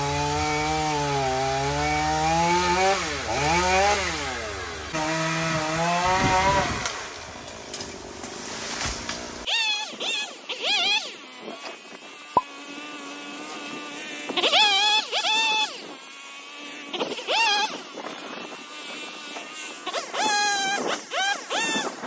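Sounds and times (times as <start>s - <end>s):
chainsaw revving: 0.0s - 21.9s.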